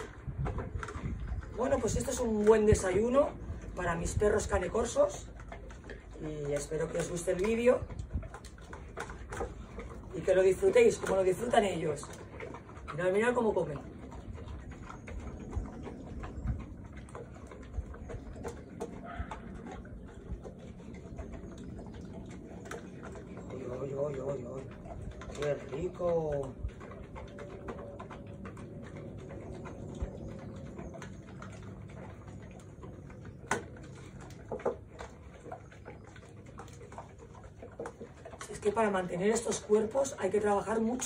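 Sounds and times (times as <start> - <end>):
dogs chewing and snuffling: 0.0 - 41.0.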